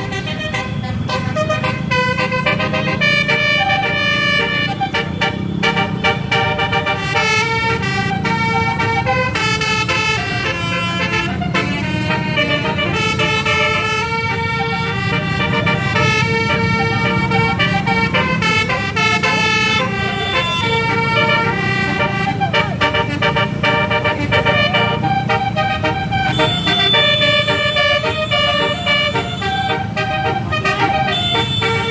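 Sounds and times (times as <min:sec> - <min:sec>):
bus engines rumbling: 0:00.0 - 0:31.9
bus horns playing a tune: 0:00.0 - 0:31.9.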